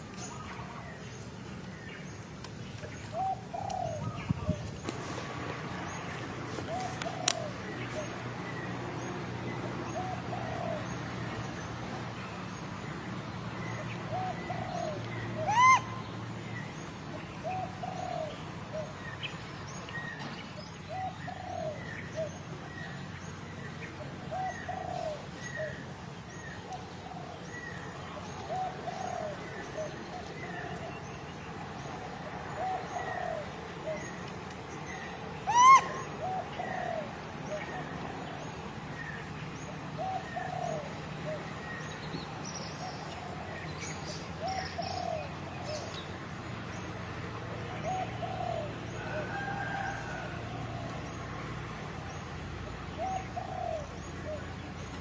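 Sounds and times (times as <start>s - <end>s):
birds cooing: 1.8s - 11.8s, 13.6s - 55.0s.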